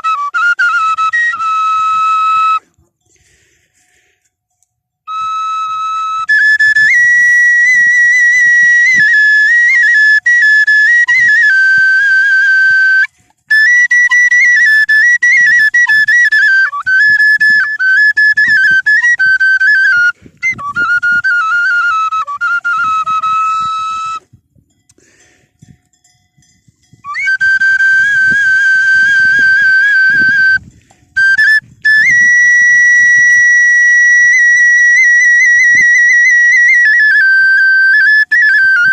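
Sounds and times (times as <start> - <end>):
solo flute folk melody: 0.0 - 4.2, 5.0 - 24.5, 26.8 - 38.9.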